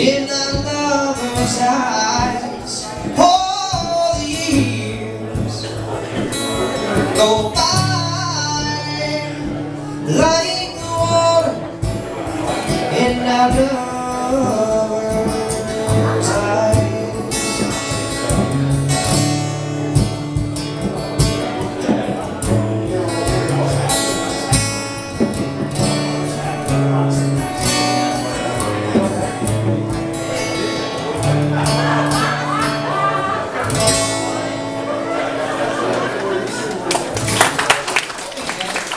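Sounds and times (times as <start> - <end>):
bass notes: 0.0 - 35.8
acoustic guitar strumming: 0.0 - 37.3.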